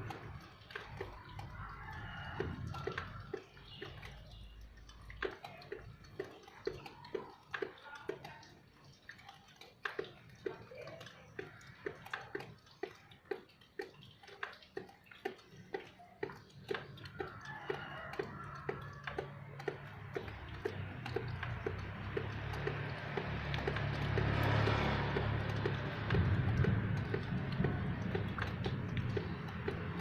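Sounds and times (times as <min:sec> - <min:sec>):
rainwater dripping: 0:00.0 - 0:30.0.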